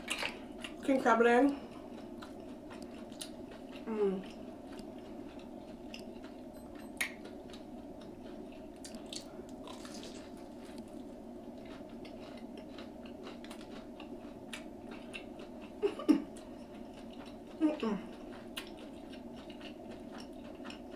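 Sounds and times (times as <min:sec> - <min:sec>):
chewing crunchy fried food: 0:00.0 - 0:20.9
low background hum: 0:00.0 - 0:20.9.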